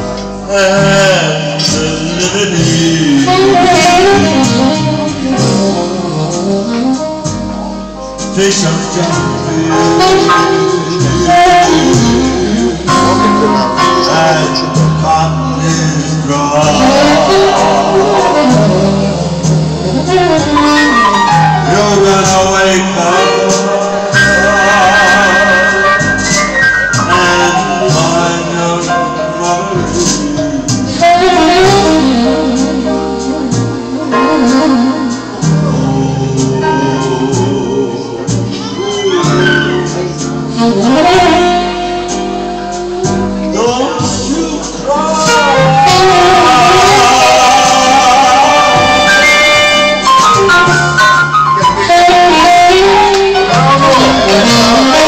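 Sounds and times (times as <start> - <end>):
electronic keyboard bass and chords: 0.0 - 47.1, 47.9 - 55.0
saxophone melody with vibrato: 2.5 - 8.5, 9.5 - 14.8, 16.6 - 28.3, 29.9 - 55.0.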